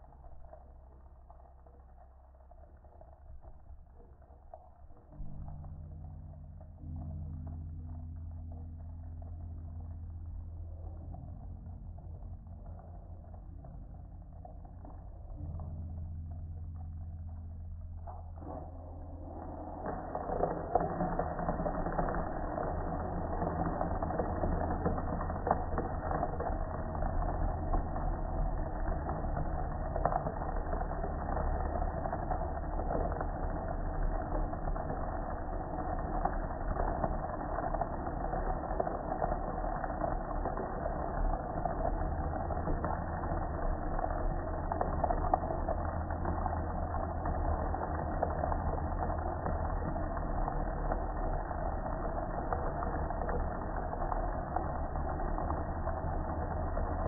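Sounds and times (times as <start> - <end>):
water spraying on metal grill: 0.0 - 57.0.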